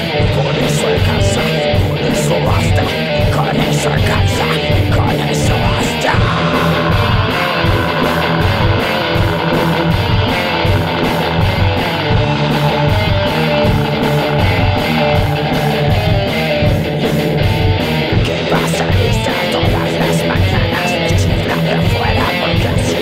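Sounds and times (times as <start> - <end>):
drums with a fast beat: 0.0 - 23.0
electric guitars: 0.0 - 23.0.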